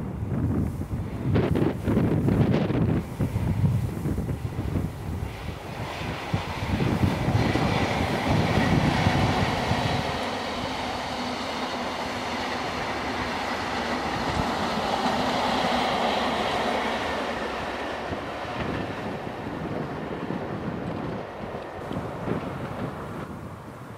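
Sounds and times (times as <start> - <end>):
train passing at speed: 0.0 - 23.9
train roaring on rails: 0.0 - 23.9.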